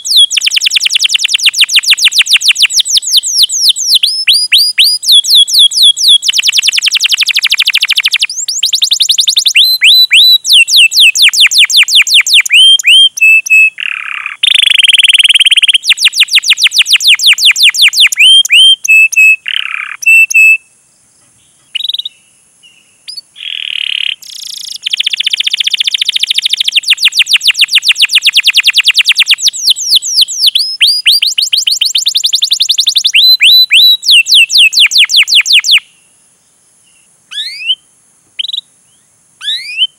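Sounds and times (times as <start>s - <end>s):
canary singing: 0.0s - 20.7s, 21.4s - 35.9s, 37.3s - 37.8s, 39.4s - 39.9s.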